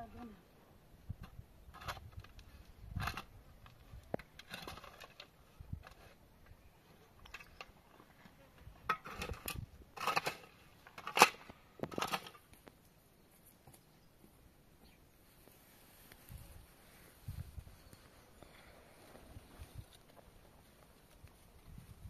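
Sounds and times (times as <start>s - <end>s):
rustling and scraping: 1.1s - 14.0s, 15.2s - 22.0s.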